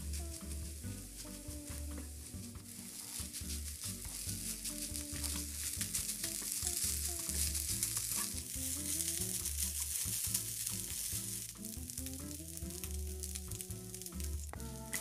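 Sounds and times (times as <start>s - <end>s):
background music with bass: 0.0s - 15.0s
rice sizzling in a pan: 0.0s - 15.0s.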